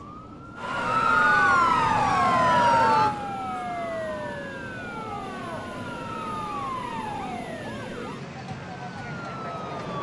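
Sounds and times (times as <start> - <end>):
police sirens wailing: 0.0 - 10.0.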